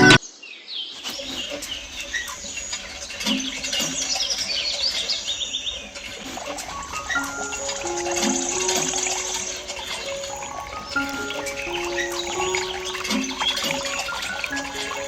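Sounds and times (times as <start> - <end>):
small birds chirping: 0.6 - 15.0.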